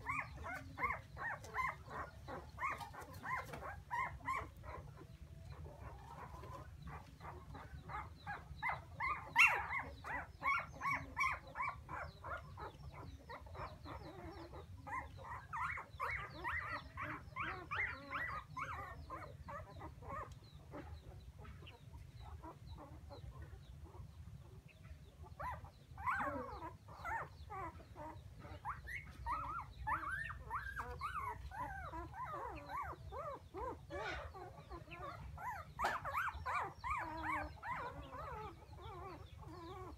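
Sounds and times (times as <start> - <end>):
puppies whimpering: 0.0 - 39.9.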